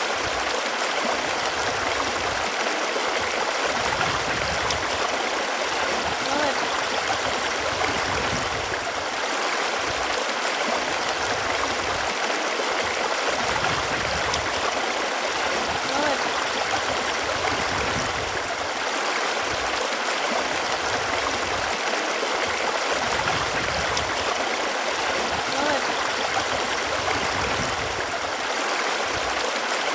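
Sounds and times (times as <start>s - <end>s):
running water rushing: 0.0s - 29.9s.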